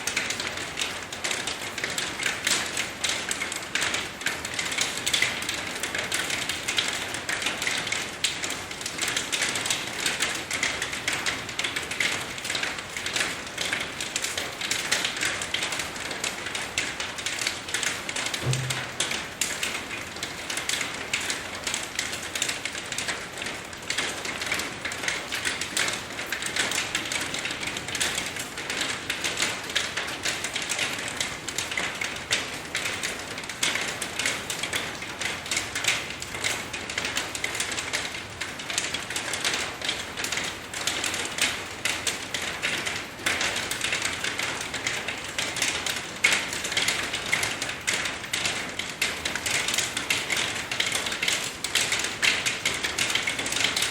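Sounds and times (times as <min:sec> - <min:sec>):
rain drops ticking on a surface: 0:00.0 - 0:53.9.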